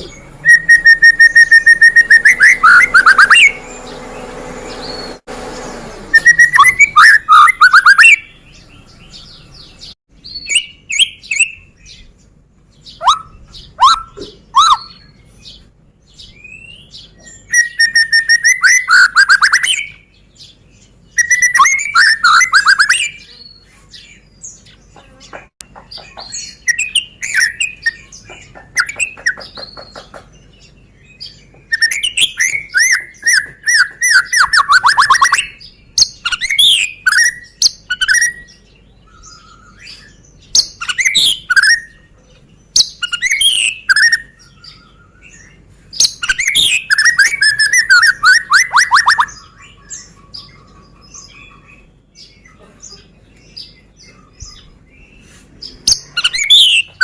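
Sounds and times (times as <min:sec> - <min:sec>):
songbird whistling and trilling: 0:00.0 - 0:04.1, 0:06.1 - 0:12.1, 0:12.8 - 0:24.8, 0:26.0 - 0:30.0, 0:30.6 - 0:52.4, 0:53.5 - 0:57.0
soft bird calls: 0:06.2 - 0:57.0.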